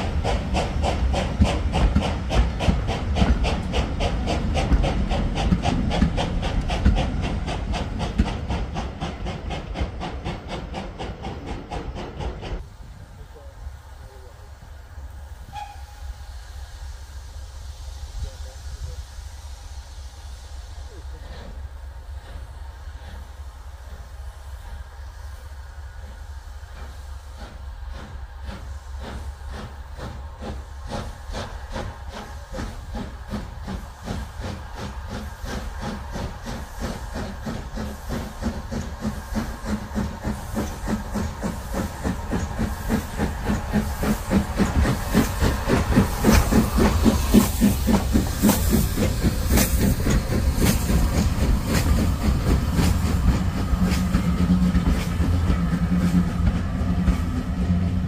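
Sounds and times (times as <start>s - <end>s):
steam hissing: 0.0s - 58.0s
steam locomotive exhaust beats: 0.0s - 58.0s
train wheels on rails: 0.0s - 58.0s.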